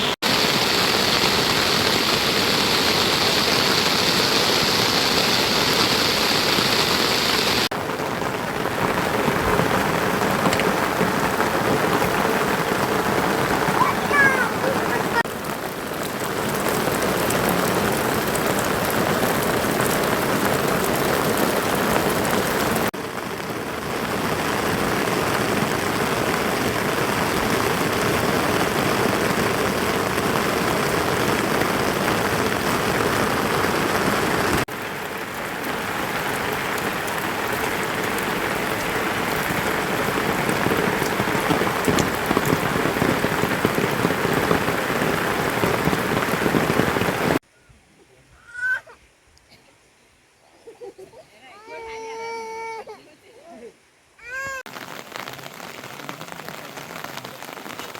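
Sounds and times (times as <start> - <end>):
heavy rain: 0.0 - 47.4, 54.2 - 57.9.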